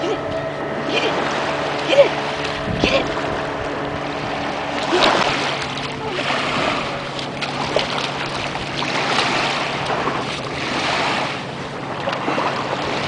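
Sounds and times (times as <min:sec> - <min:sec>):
steady low hum: 0:00.0 - 0:13.0
waves lapping on beach: 0:00.0 - 0:13.0
wind on microphone: 0:00.0 - 0:13.0.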